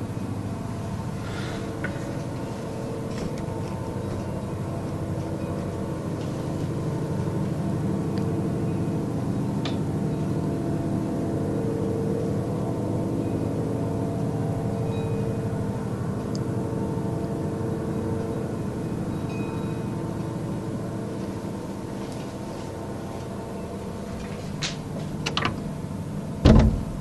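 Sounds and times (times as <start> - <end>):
steady low drone: 0.0 - 27.0.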